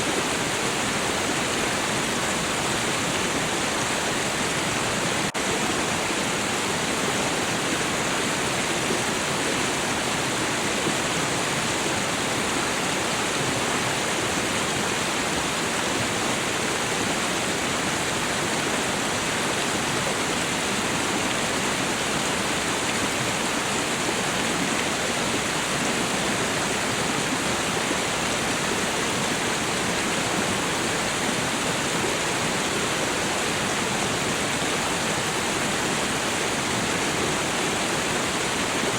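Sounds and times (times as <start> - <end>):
stream rushing over waterfall: 0.0 - 38.9.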